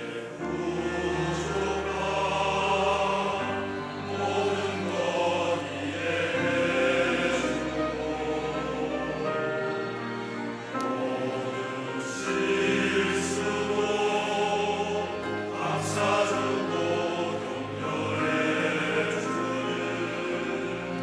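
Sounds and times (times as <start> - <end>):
choir singing a hymn: 0.0 - 21.0.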